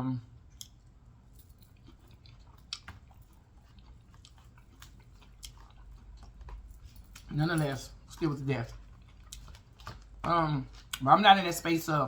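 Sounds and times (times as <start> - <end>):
person chewing fried fish: 0.3 - 11.6.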